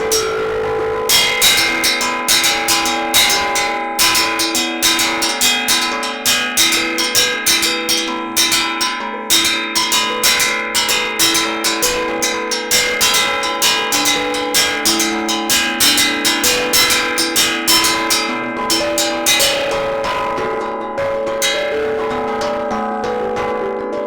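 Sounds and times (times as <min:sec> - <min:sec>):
plucked string instrument: 0:00.0 - 0:24.0.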